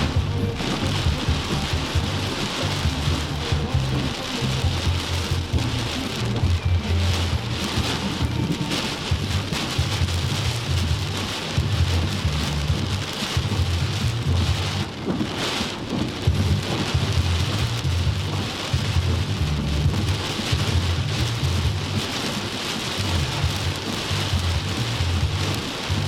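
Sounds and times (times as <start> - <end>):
heavy rain pouring: 0.0 - 26.0
low rumble: 0.0 - 26.0.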